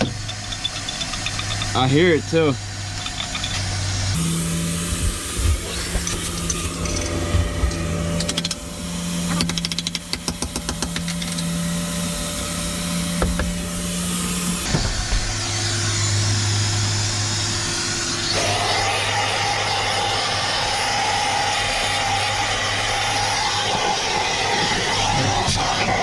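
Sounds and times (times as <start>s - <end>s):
shop vacuum motor running: 0.0s - 26.0s.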